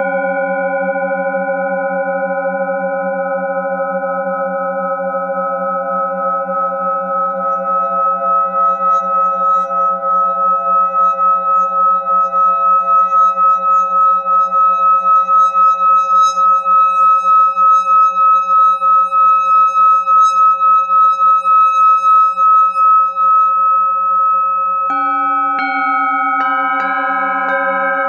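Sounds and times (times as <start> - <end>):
singing bowl ringing: 0.0 - 28.0.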